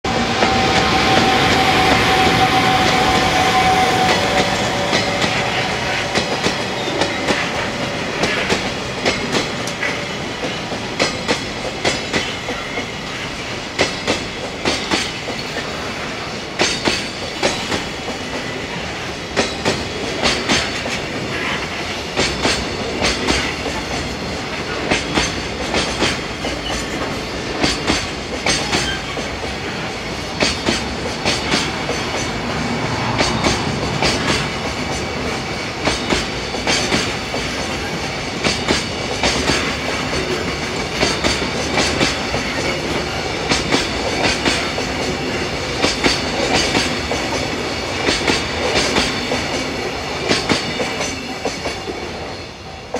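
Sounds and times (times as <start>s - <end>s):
train rumble: 0.0s - 52.9s
train wheels clattering over rail joints: 0.4s - 18.6s, 19.2s - 52.2s.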